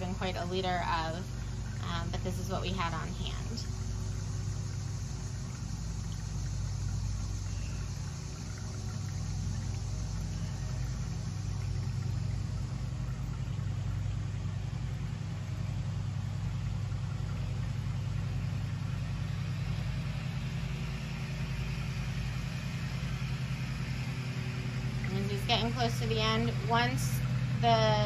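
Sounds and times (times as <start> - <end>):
liquid trickling through funnel: 0.0 - 28.0
low mechanical hum: 0.0 - 28.0.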